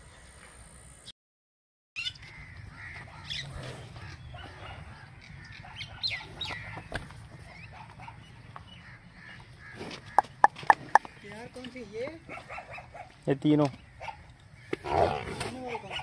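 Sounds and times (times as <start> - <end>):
birds chirping and calling: 2.0 - 16.0.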